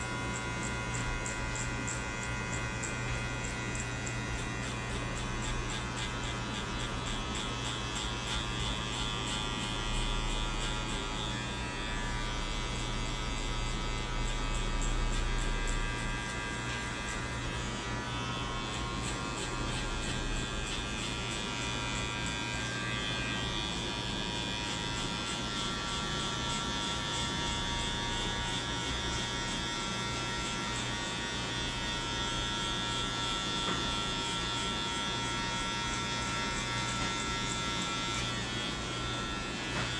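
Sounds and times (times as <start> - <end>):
electric hair clippers buzzing: 0.0 - 39.9.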